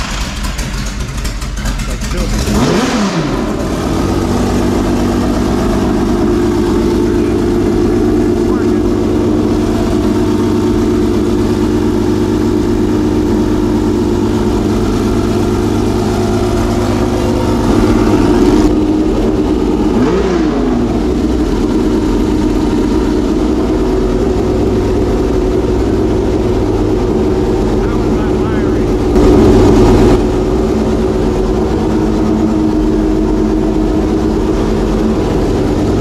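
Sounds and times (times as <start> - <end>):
race engine running: 0.0 - 36.0.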